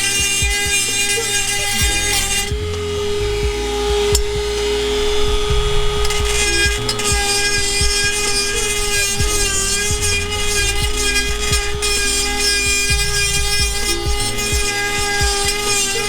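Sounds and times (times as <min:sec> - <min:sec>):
rotary tool whining and grinding: 0:00.0 - 0:16.0.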